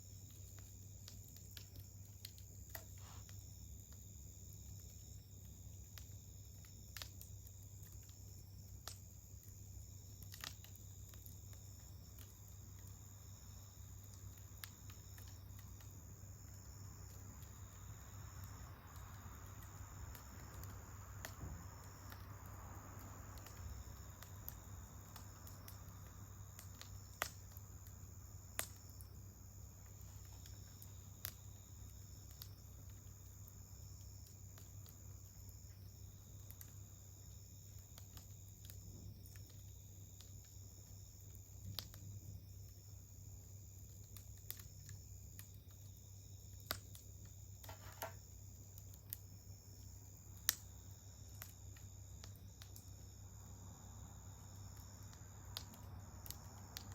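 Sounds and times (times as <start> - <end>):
campfire crackling and popping: 0.0 - 56.9
insects chirring: 0.0 - 56.9.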